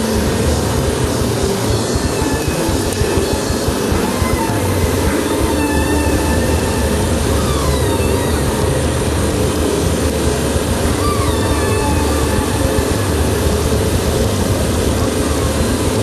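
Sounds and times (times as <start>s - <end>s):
faint wavering whistle-like tones: 0.0s - 16.0s
loud rumbling noise: 0.0s - 16.0s.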